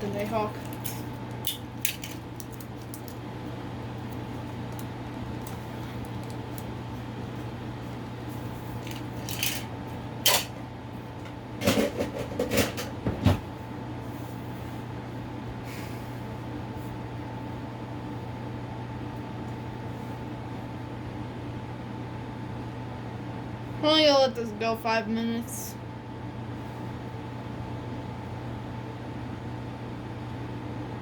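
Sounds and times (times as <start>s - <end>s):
steady electrical hum: 0.0s - 31.0s.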